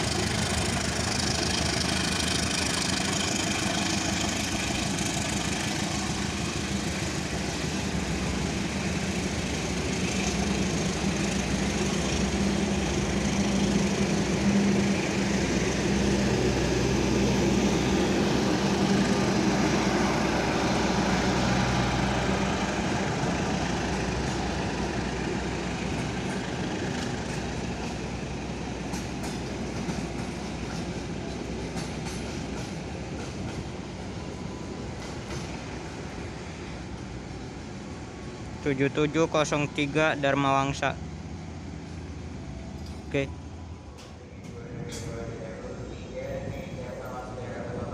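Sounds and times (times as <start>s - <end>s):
train engine drone: 0.0s - 47.9s.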